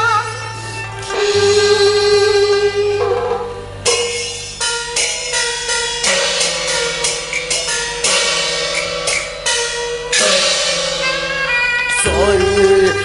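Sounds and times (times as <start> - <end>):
cymbal and percussion strikes: 0.0 - 13.0
held melodic instrument tones: 0.0 - 13.0.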